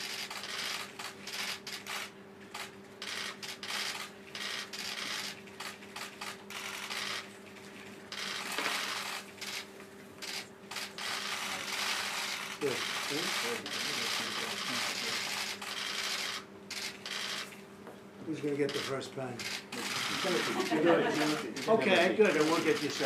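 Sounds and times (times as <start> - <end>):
camera shutters clicking: 0.0 - 7.3, 8.1 - 17.6, 18.7 - 23.0
low electrical hum: 0.0 - 23.0.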